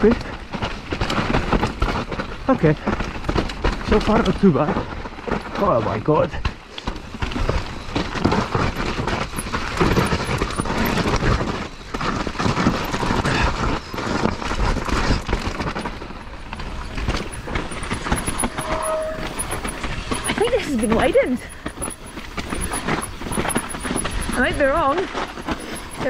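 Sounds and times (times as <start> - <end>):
bike rattling over bumps: 0.0 - 26.0
tyres crunching on dirt trail: 0.0 - 26.0.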